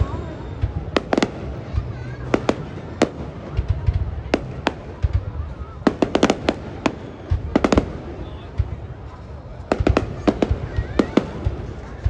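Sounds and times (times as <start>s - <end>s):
fireworks bangs: 0.0s - 12.0s
fireworks cracking and popping: 0.0s - 12.0s.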